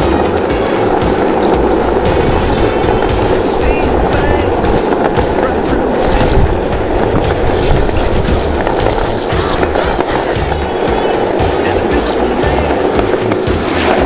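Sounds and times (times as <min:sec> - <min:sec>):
skateboard wheels rolling on asphalt: 0:00.0 - 0:14.0.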